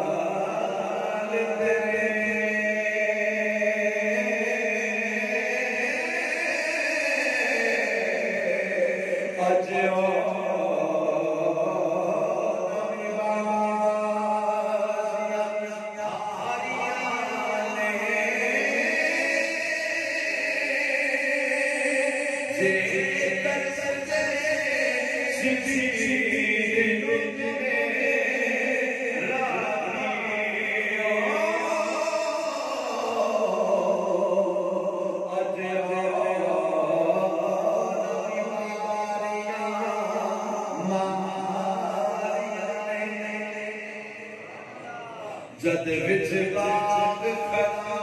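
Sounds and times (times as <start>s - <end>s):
man chanting into microphone: 0.0s - 48.0s.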